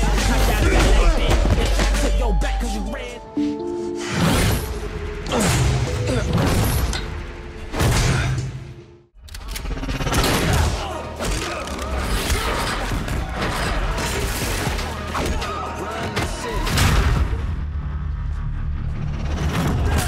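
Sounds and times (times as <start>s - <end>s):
action music: 0.0s - 20.0s.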